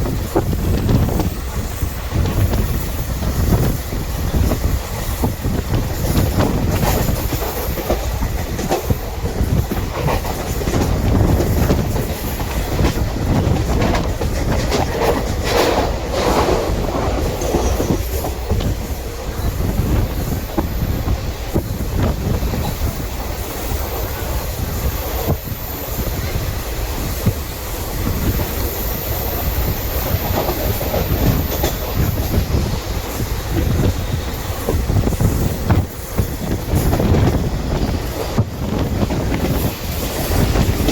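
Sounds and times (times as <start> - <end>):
train rumbling on rails: 0.0 - 40.9
wheels clicking over rail joints: 0.0 - 40.9.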